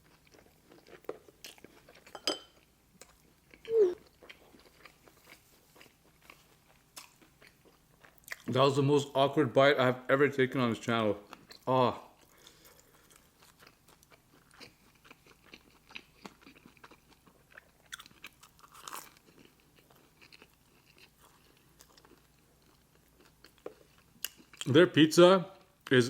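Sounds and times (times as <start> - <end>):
chewing with mouth clicks: 0.0 - 8.5, 11.2 - 24.7.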